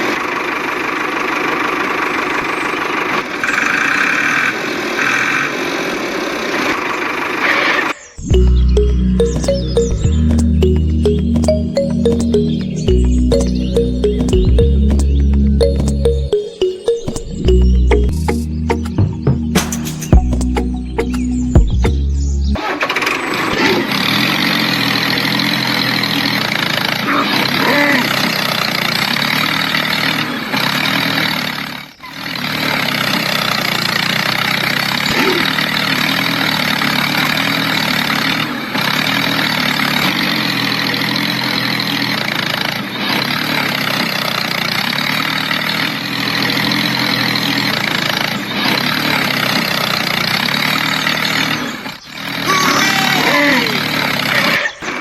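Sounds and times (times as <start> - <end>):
heavy engine running: 8.2 - 23.1, 23.9 - 54.4.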